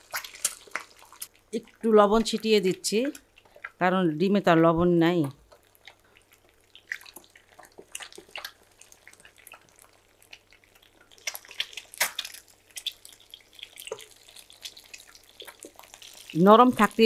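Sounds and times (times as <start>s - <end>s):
eggs frying in oil: 0.0s - 17.0s.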